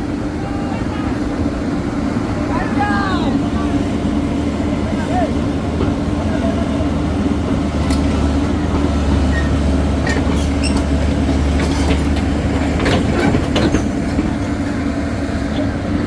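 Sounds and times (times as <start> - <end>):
diesel machinery droning: 0.0 - 16.0.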